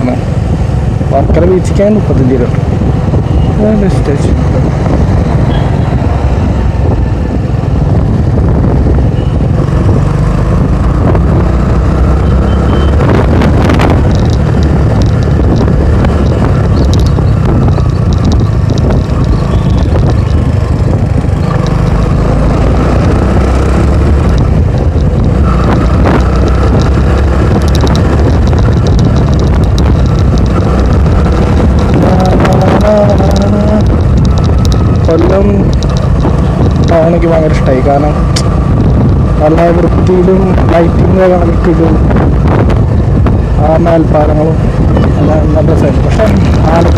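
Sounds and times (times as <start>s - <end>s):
motorcycle road and engine noise: 0.0s - 46.9s
wind buffeting: 0.0s - 46.9s.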